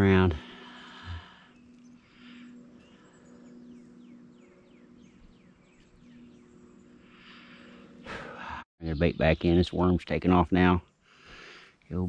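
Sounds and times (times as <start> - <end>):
faint low hum: 0.0 - 10.9.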